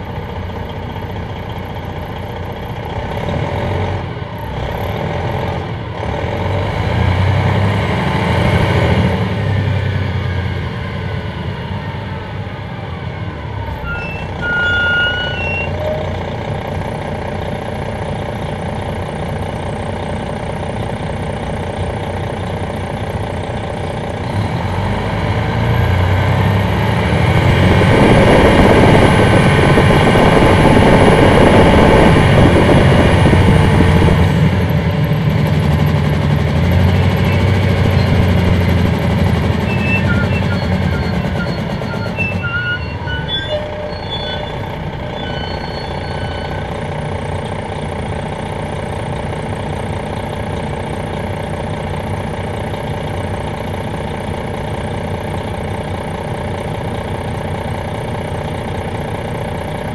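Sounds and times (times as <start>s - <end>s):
diesel coach engine accelerating: 0.0s - 59.9s.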